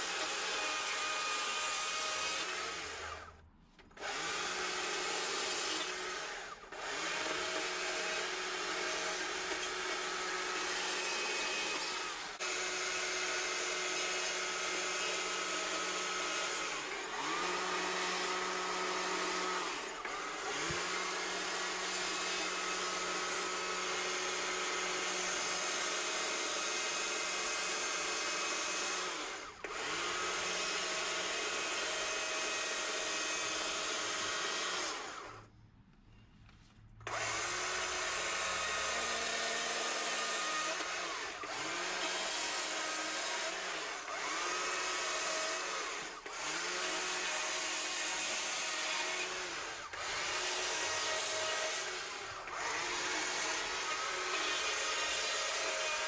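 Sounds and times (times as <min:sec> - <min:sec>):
electric chainsaw cutting wood: 0:00.0 - 0:35.5, 0:37.0 - 0:56.0.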